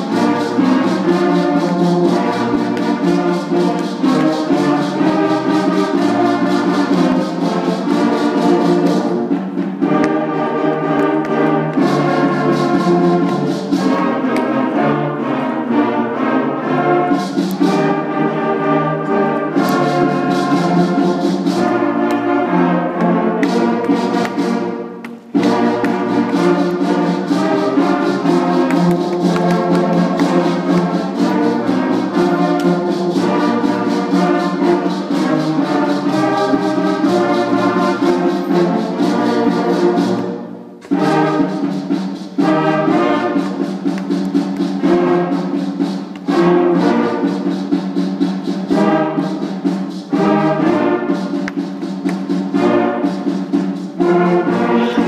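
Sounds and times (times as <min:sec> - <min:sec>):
school concert band playing: 0:00.0 - 0:55.0.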